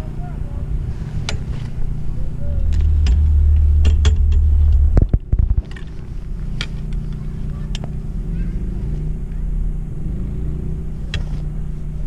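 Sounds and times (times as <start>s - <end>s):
chairlift rumble: 0.0s - 12.0s
heavy low rumble: 0.0s - 12.0s.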